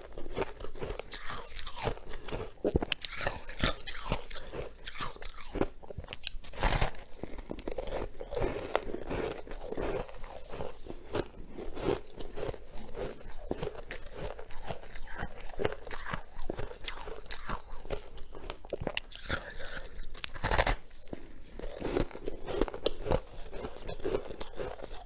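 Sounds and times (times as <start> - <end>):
crunching and chewing frost: 0.0 - 25.0.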